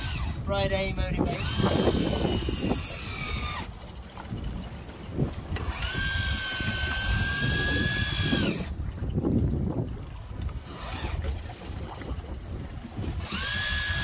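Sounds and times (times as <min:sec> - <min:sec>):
fishing reel motor whining: 0:00.0 - 0:09.0, 0:10.4 - 0:11.8, 0:13.0 - 0:14.0
wind and sea rumble: 0:00.0 - 0:14.0.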